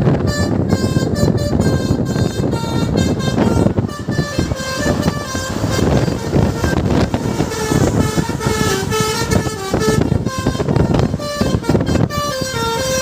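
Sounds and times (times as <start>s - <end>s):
bus and traffic rumble: 0.0s - 13.0s
multi-tone bus horn melody: 0.0s - 13.0s.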